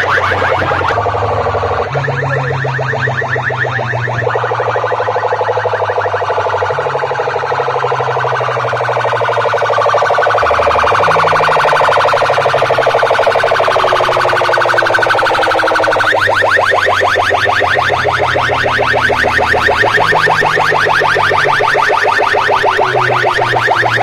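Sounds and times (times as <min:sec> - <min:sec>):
electronic siren chirps: 0:00.0 - 0:24.0
low bass tone: 0:00.0 - 0:24.0.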